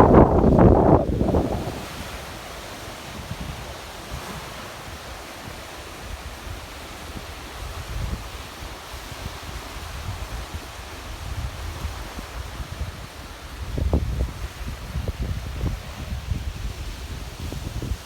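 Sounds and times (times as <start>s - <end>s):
river water rushing: 0.0s - 18.0s
wind buffeting microphone: 0.0s - 18.0s.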